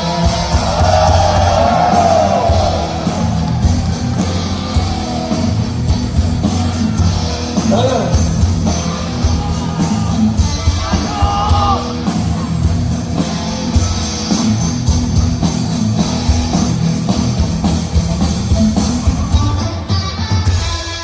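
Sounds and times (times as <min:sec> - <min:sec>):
distorted guitar and bass: 0:00.0 - 0:21.0
heavy metal band playing: 0:00.0 - 0:21.0
pounding drum kit: 0:00.0 - 0:21.0.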